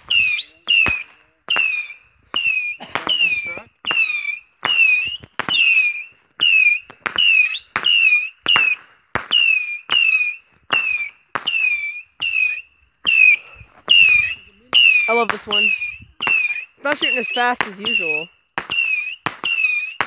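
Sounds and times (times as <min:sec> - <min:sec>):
falling whistle: 0:00.0 - 0:20.0
firework cake shots popping: 0:00.0 - 0:20.0.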